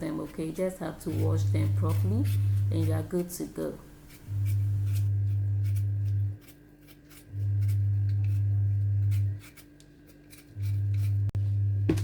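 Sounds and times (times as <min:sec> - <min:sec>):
potatoes being peeled: 0:00.0 - 0:11.4
loud steady low hum: 0:00.2 - 0:12.0.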